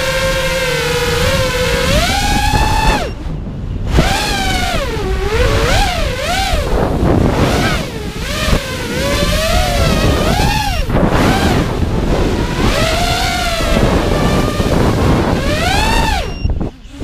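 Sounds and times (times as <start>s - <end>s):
drone motors whining: 0.0s - 17.0s
wind rushing past camera: 0.0s - 17.0s.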